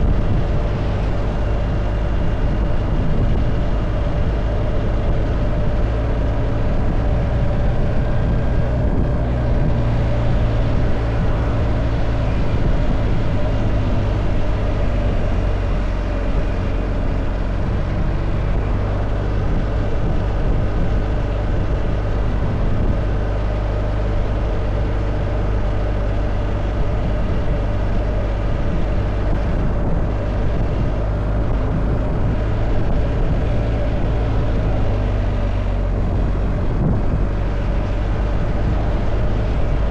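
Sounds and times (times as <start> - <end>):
road noise: 0.0 - 39.9
vehicle engine droning: 0.0 - 39.9.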